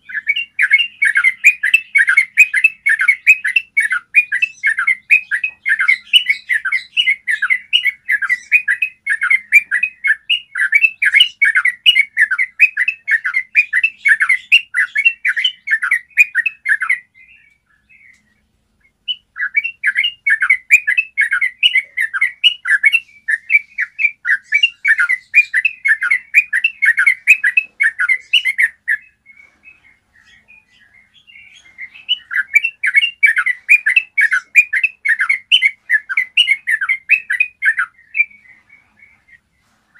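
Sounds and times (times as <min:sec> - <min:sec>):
bulbul singing rolling song: 0:00.0 - 0:39.9.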